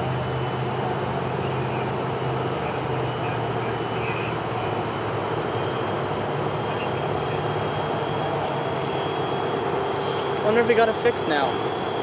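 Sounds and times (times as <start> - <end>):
diesel locomotives idling: 0.0 - 12.0.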